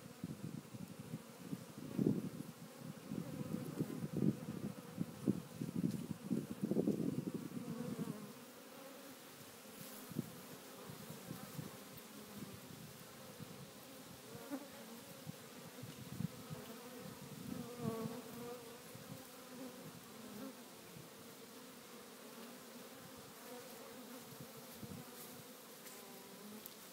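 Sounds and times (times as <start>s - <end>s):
swarm of bees buzzing: 0.0s - 26.9s.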